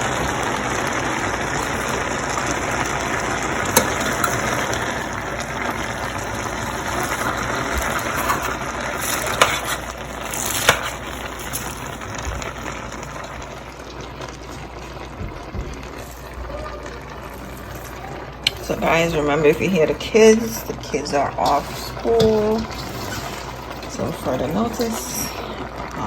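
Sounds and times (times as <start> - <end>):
food sizzling in a pot: 0.0 - 26.0.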